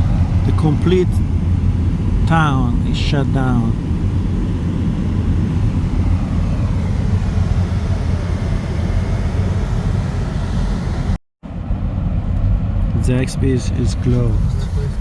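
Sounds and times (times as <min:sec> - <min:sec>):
car interior driving rumble: 0:00.0 - 0:15.0.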